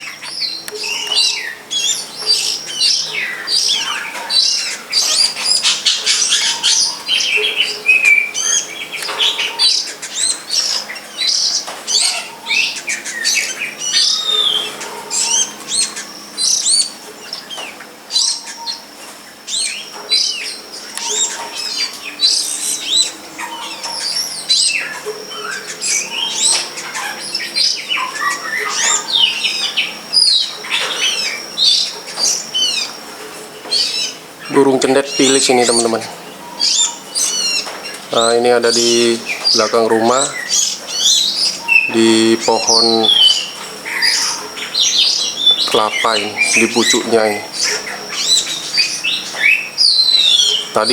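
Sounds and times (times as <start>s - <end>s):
birds chirping and whistling: 0.0s - 50.9s
thin steady high tone: 0.0s - 50.9s.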